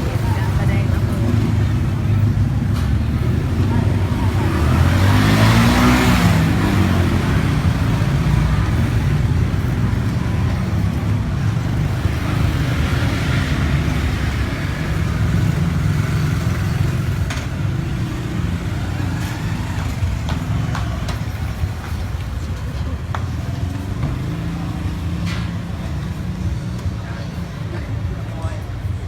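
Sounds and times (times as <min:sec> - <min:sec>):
vehicle engine rumbling: 0:00.0 - 0:29.0.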